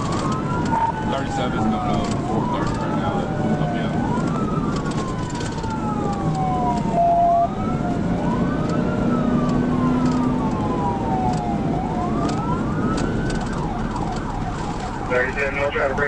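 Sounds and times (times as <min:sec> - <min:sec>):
police siren wailing: 0:00.0 - 0:16.0
road and engine noise: 0:00.0 - 0:16.0.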